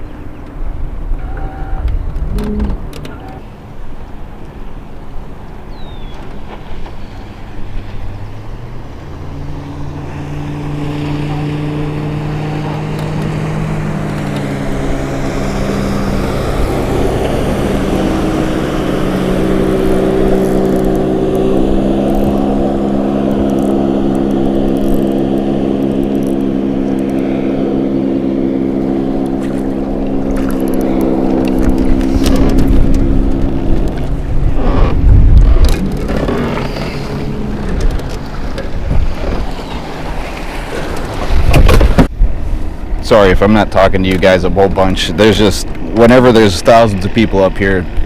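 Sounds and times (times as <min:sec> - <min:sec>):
outboard motorboat engine: 0:00.0 - 0:48.0.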